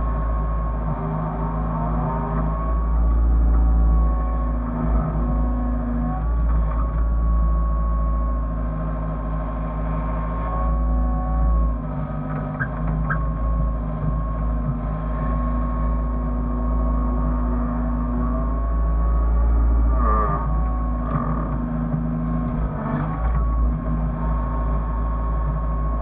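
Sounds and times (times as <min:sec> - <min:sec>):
diesel engine low rumble: 0:00.0 - 0:26.0
high hydraulic whine: 0:00.0 - 0:26.0.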